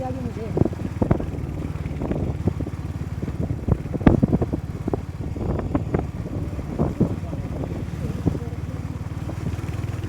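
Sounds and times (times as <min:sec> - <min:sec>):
motorcycle engine running: 0:00.0 - 0:10.0
wind buffeting microphone: 0:00.0 - 0:10.0.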